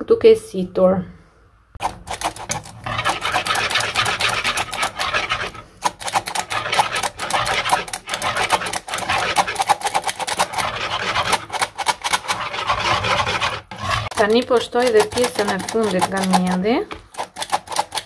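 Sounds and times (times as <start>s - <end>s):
whisk scraping in bowl: 1.8s - 18.0s.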